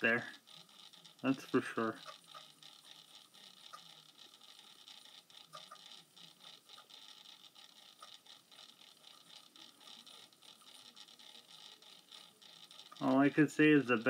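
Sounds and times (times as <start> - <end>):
small motor whirring and ticking: 0.0 - 14.0.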